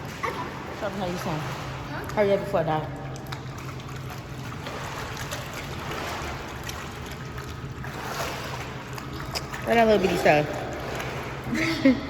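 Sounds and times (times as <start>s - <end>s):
pool water splashing: 0.0s - 12.0s
steady low hum: 0.0s - 12.0s.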